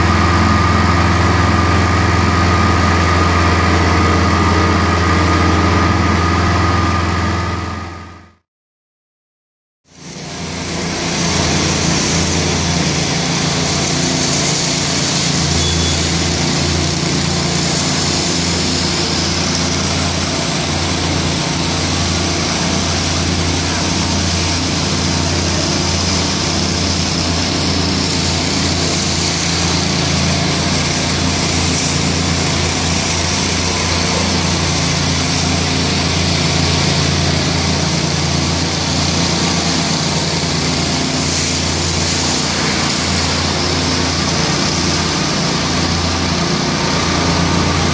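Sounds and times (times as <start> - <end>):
small petrol engines running: 0.0 - 8.4, 9.9 - 47.9.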